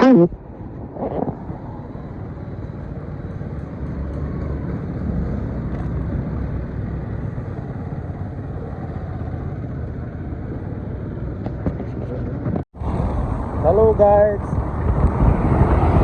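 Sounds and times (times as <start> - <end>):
vehicle rumbling on road: 0.0 - 16.0.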